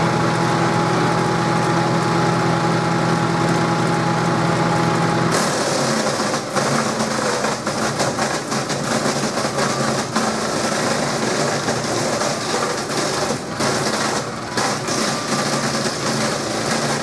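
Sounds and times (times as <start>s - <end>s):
petrol engine under load: 0.0s - 17.0s.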